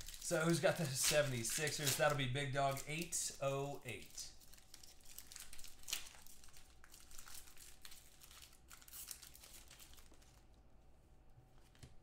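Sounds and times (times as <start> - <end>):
foil pack crinkling and tearing: 0.0 - 10.5.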